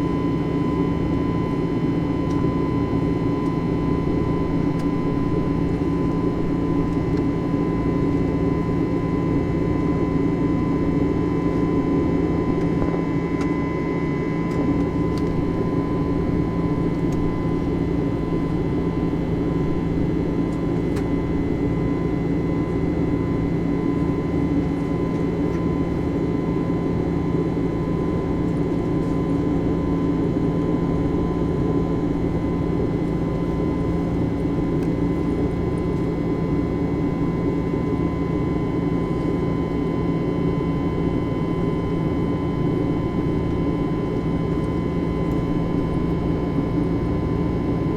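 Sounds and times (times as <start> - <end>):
constant hum tones: 0.0 - 47.9
jet engine cabin drone: 0.0 - 47.9.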